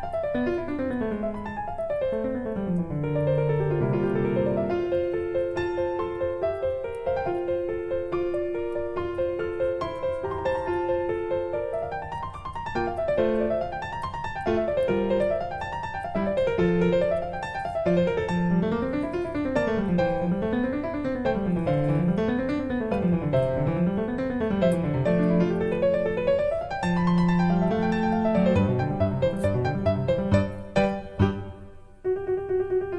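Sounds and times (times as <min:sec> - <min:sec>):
piano arpeggios: 0:00.0 - 0:32.9.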